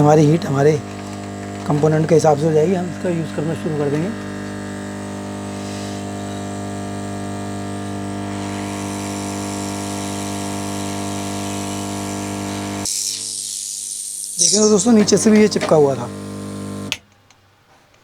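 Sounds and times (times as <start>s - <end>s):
air pump humming: 0.0s - 17.0s.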